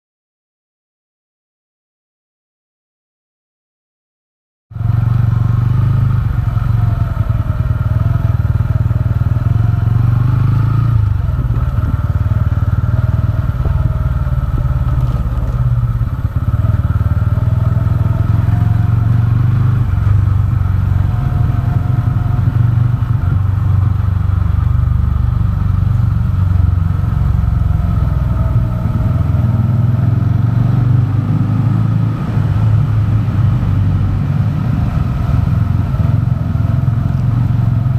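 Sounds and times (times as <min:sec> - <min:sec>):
motorcycle engine deep rumble: 0:04.7 - 0:37.9.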